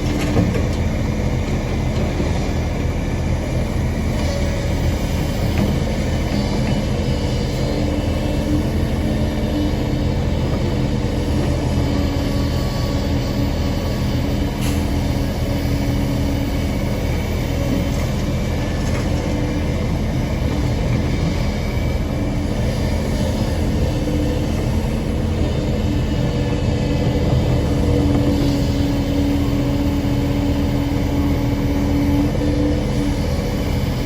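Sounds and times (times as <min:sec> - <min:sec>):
excavator diesel engine droning: 0:00.0 - 0:34.0.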